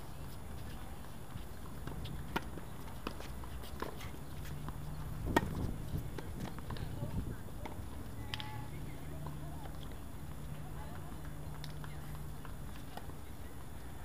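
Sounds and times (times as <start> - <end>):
tennis balls hit and bouncing: 0.2 - 14.0.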